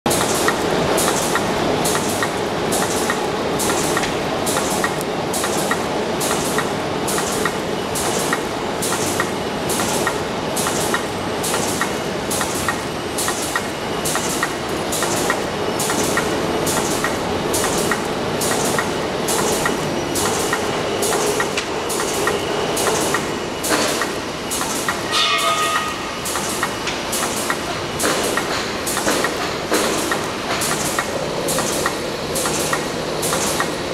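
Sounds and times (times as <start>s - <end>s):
mechanical clatter: 0.1s - 33.9s.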